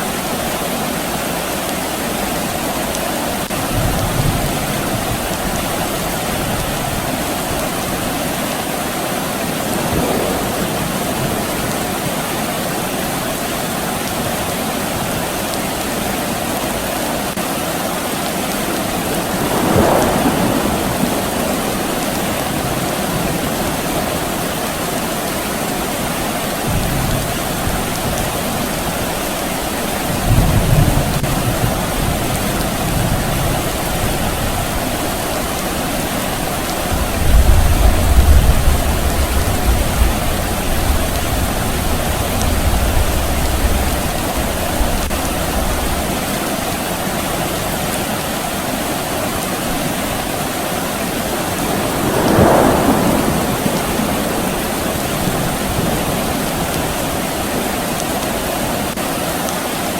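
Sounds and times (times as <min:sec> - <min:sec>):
rain falling: 0:00.0 - 0:59.9
distant thunder rumbling: 0:03.6 - 0:15.5, 0:18.5 - 0:46.4, 0:49.1 - 0:59.0.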